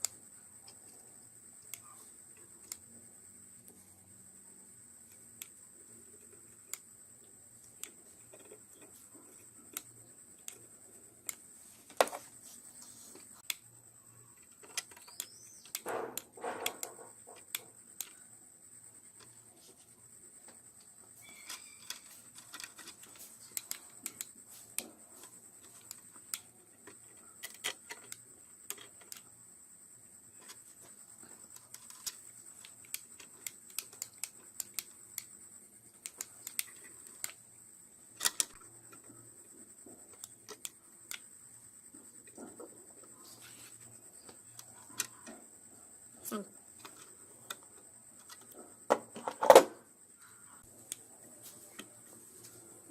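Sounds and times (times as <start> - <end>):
small parts clicking and tapping: 0.0 - 3.8, 4.6 - 52.6
faint high whine: 0.0 - 52.9.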